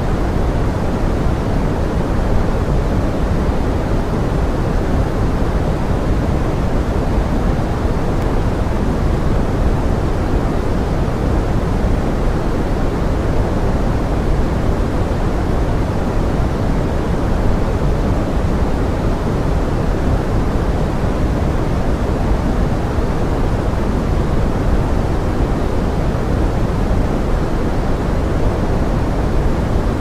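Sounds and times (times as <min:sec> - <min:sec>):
pink noise with rain hiss: 0:00.0 - 0:30.0.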